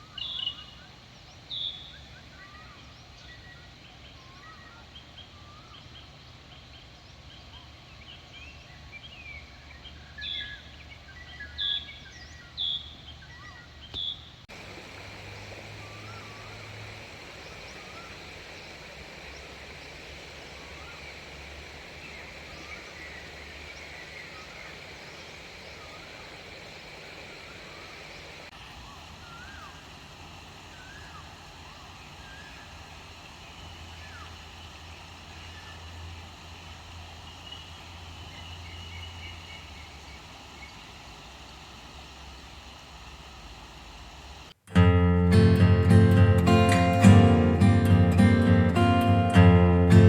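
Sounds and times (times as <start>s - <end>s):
birds chirping: 0.0s - 44.6s, 46.0s - 50.0s
outdoor ambience hiss: 0.0s - 50.0s.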